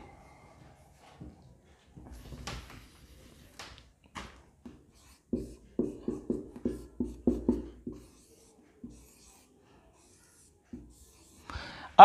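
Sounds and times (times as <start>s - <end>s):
marker pen on whiteboard: 0.9s - 12.0s.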